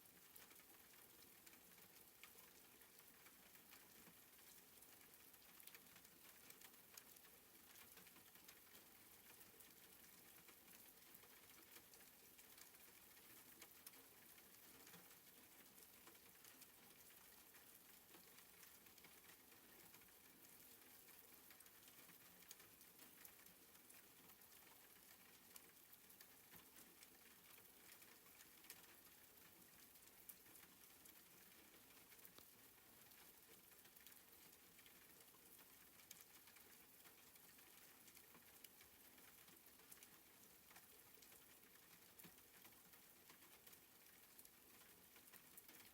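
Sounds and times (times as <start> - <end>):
soft rain falling: 0.0 - 45.9.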